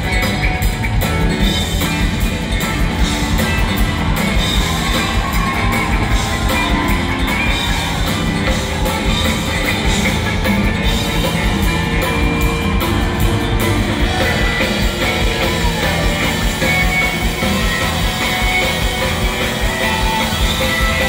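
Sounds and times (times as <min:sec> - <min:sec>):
electric bass guitar solo: 0:00.0 - 0:21.0.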